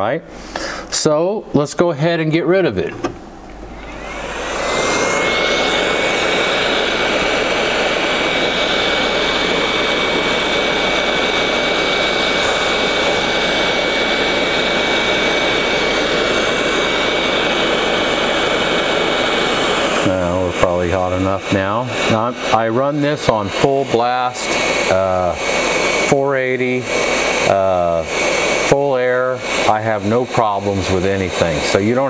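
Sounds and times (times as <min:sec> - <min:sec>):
high fan whine: 0:00.0 - 0:32.0
rush of blowing air: 0:00.3 - 0:01.0, 0:03.0 - 0:32.0.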